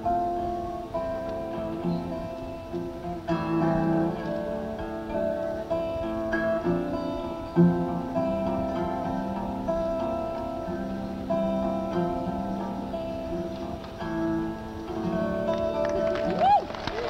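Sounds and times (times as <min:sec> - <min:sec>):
acoustic guitar strumming: 0:00.0 - 0:16.5.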